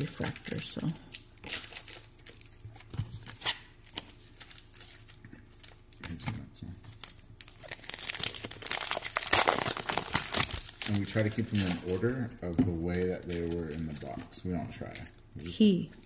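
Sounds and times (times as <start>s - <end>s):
foil wrapper crinkling and tearing: 0.0s - 6.2s, 6.9s - 16.0s.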